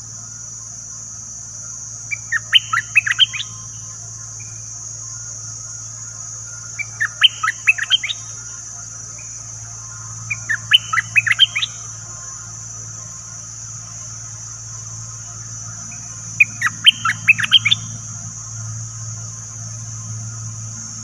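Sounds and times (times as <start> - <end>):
high insect hiss: 0.0 - 21.0.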